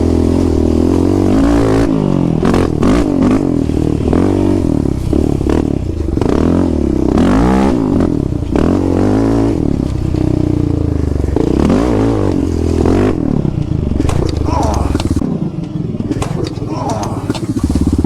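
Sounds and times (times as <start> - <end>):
off-road vehicle engine revving: 0.0 - 15.3, 16.0 - 18.0.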